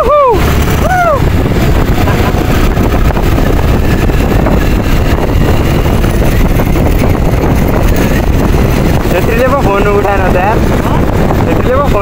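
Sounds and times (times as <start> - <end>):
motorcycle engine: 0.0 - 12.0
road noise: 0.0 - 12.0
wind buffeting microphone: 0.0 - 12.0.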